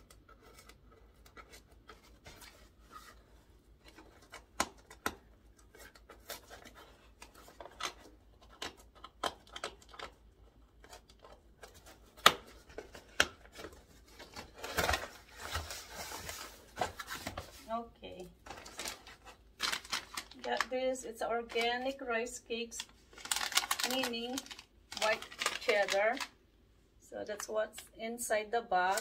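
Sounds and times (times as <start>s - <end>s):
cardboard packaging rustling: 0.0s - 20.8s, 22.8s - 26.4s.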